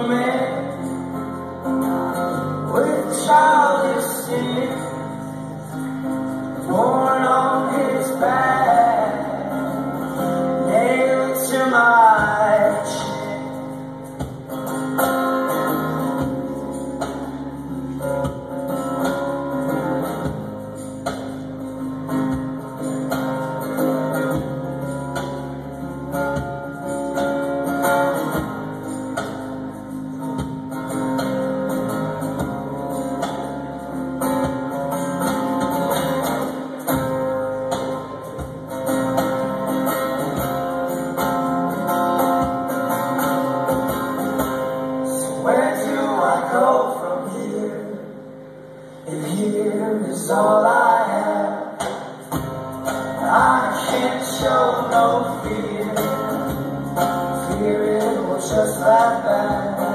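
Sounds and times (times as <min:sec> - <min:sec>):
strummed acoustic guitar music: 0:00.0 - 0:59.9.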